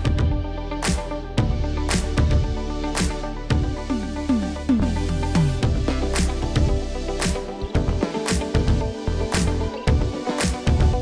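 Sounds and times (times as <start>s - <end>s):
electronic music with drum beat: 0.0s - 11.0s.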